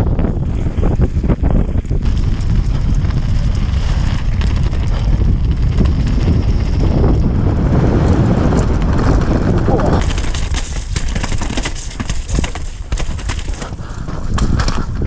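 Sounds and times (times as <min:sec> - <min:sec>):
mountain bike rumble: 0:00.0 - 0:15.0
wind rushing over microphone: 0:00.0 - 0:15.0.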